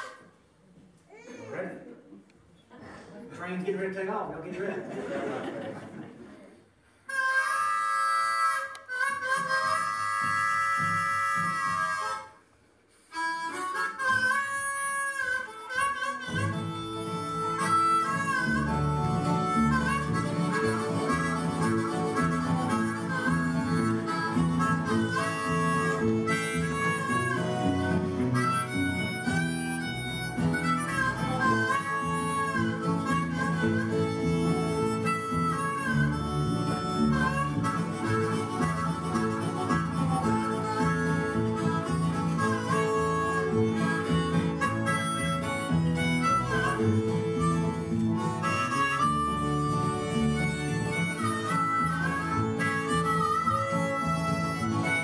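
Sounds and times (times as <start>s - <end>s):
harmonica playing: 0.0s - 0.4s, 6.9s - 55.0s
string band with guitar and fiddle: 6.8s - 55.0s.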